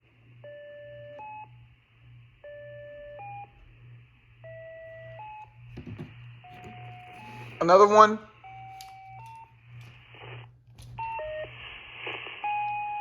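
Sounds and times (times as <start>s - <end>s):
steady low hum: 0.0s - 13.0s
radio paging tones: 0.4s - 13.0s.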